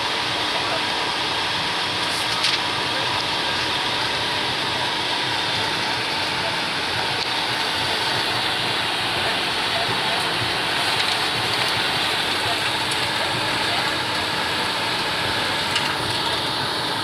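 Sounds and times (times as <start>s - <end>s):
faint steady whine: 0.0s - 17.0s
jet cockpit rushing noise: 0.0s - 17.0s.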